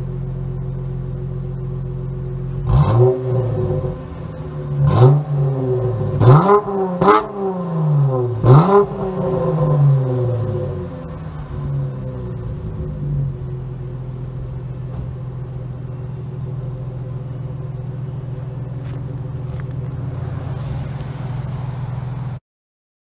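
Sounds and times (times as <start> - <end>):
car engine idling: 0.0 - 22.4.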